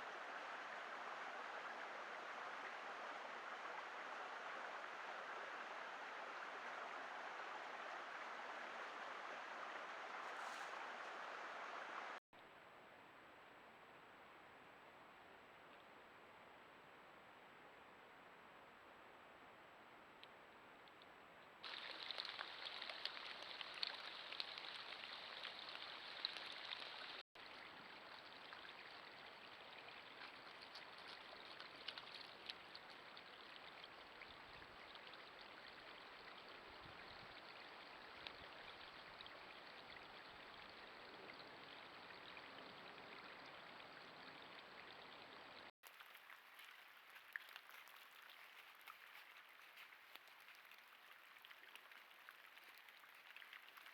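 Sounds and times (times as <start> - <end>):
faint patter of precipitation: 0.0 - 53.9.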